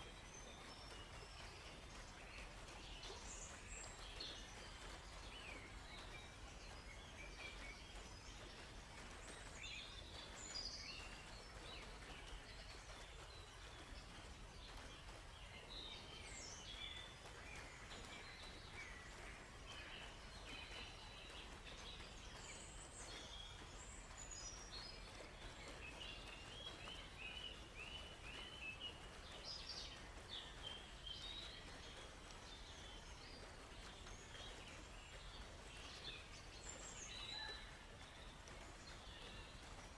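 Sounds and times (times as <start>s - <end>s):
low background noise: 0.0s - 39.9s
songbirds chirping: 0.0s - 39.9s.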